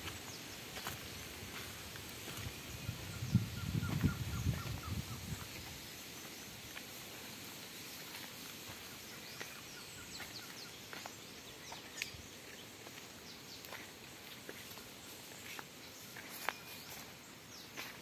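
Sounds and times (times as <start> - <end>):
birds chirping: 0.0 - 18.0
footsteps on dry leaves: 0.0 - 18.0.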